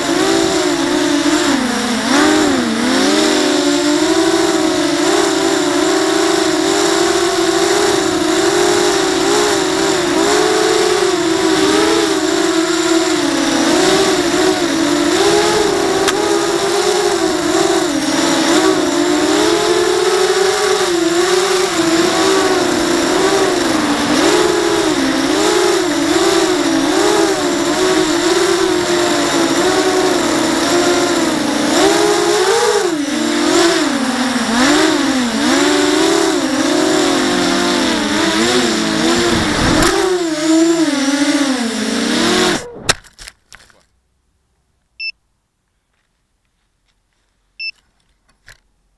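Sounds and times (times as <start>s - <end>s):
quadcopter motors buzzing whine: 0.0s - 43.0s.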